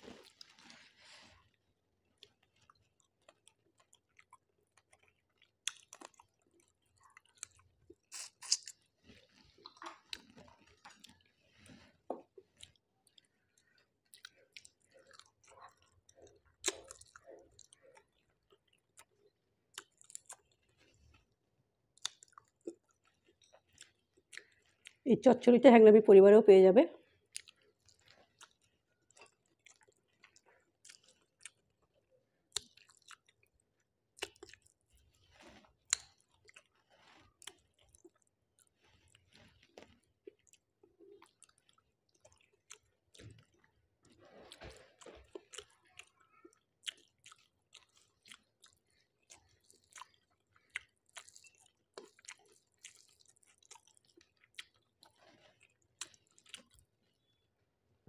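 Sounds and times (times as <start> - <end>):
person chewing food: 0.0 - 25.0, 27.0 - 57.4.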